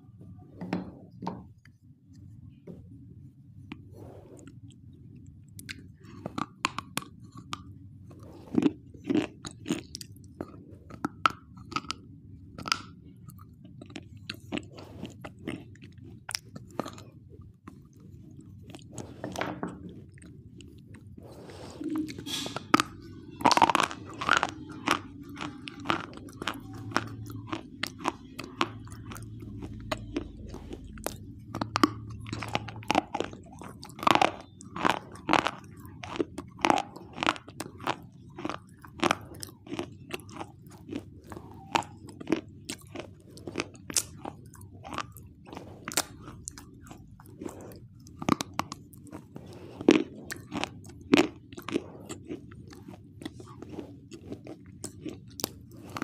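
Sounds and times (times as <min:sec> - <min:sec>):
biting and chewing crunches: 0:05.5 - 0:56.0.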